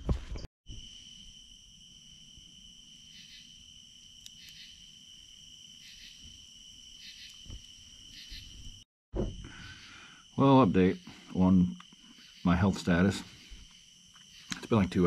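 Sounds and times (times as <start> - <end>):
crickets trilling: 0.7 - 15.0
loud insect chirping call: 0.7 - 15.0.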